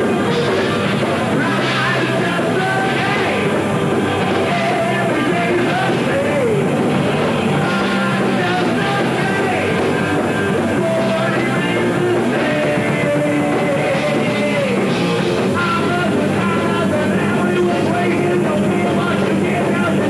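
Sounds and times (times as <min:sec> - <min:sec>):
metal band playing: 0:00.0 - 0:20.0
person singing into microphone: 0:00.0 - 0:20.0.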